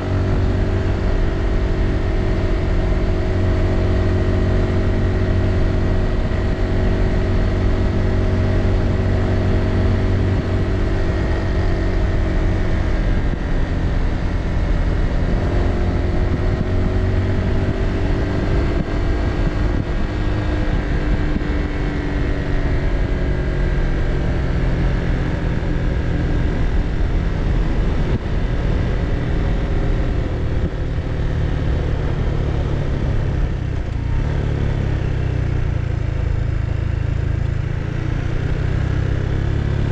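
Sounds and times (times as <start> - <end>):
motorbike engine running: 0.0 - 39.9
wind and road noise: 0.0 - 39.9.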